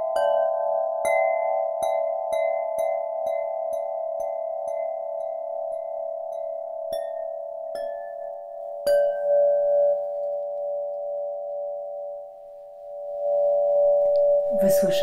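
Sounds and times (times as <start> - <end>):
crystal rods struck with mallet: 0.0 - 15.0.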